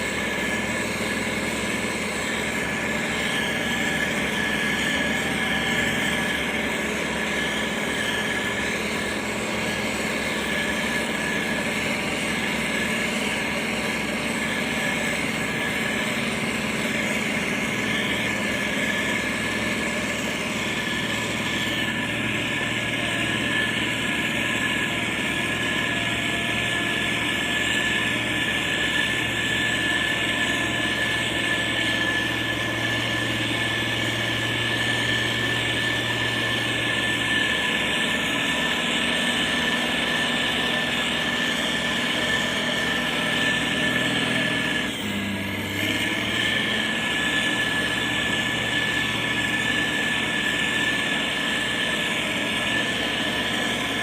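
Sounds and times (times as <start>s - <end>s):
diesel engine running under load: 0.0s - 54.0s
high-pitched whine: 0.0s - 54.0s.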